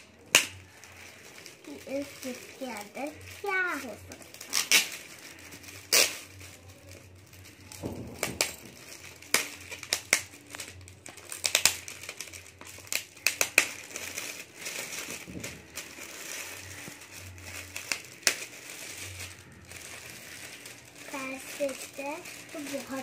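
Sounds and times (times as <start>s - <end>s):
foil gift wrap crinkling: 0.0s - 23.0s.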